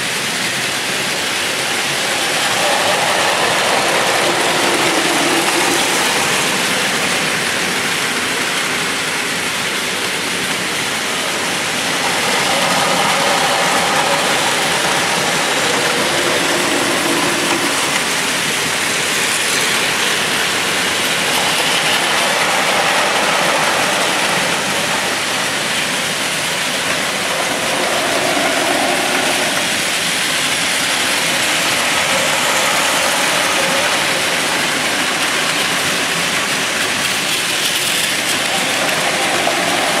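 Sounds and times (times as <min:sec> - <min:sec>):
toy train motors whirring: 0:00.0 - 0:40.0
wheels rattling on plastic track: 0:00.0 - 0:40.0.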